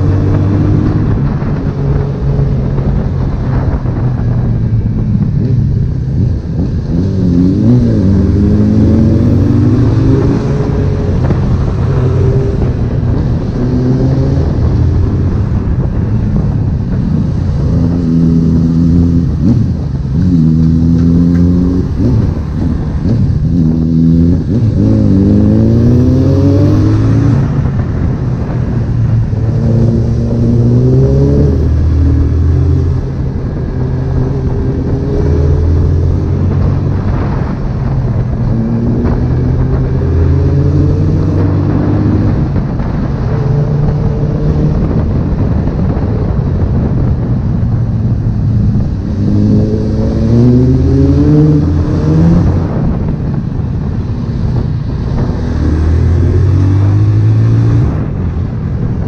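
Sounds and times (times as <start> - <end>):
motorcycle engine accelerating: 0.0 - 59.0
wind rushing: 0.0 - 59.0.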